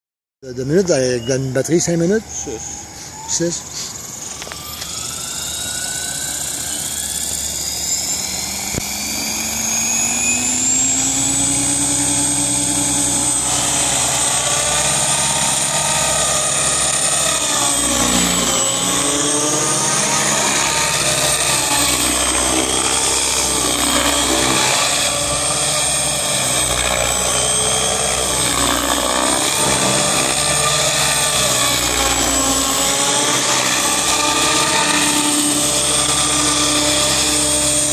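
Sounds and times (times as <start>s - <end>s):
rc helicopter rotor whine: 0.8s - 37.9s.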